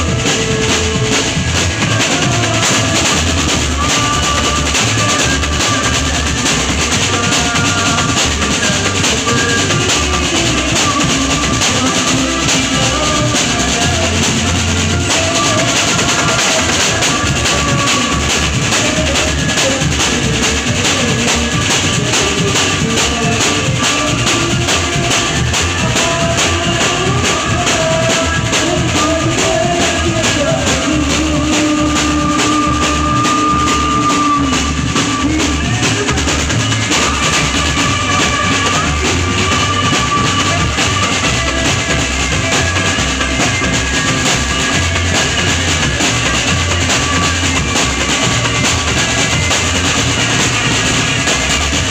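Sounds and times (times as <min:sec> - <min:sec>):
band music: 0:00.0 - 0:51.9
drum kit beat: 0:00.0 - 0:51.9.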